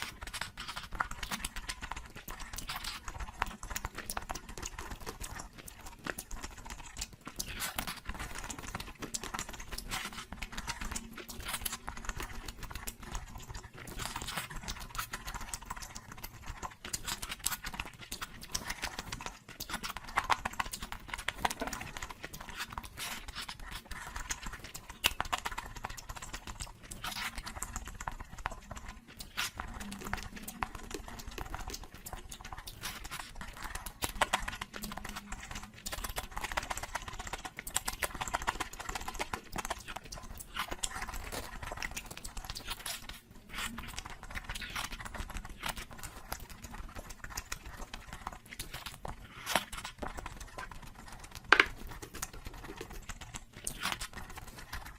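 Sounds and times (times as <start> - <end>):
chewing and mouth noises: 0.0 - 54.9.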